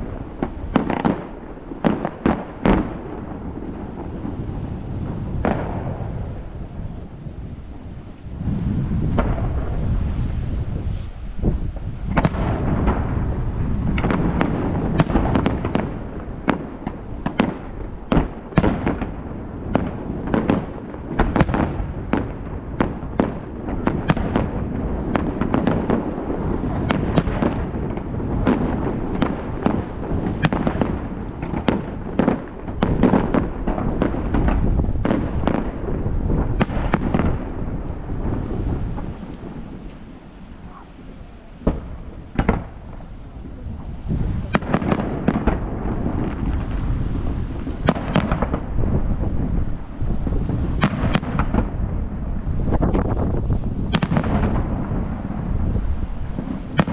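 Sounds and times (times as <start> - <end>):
fireworks bangs and crackles: 0.0 - 56.9
low rumble of booming shells: 0.0 - 56.9.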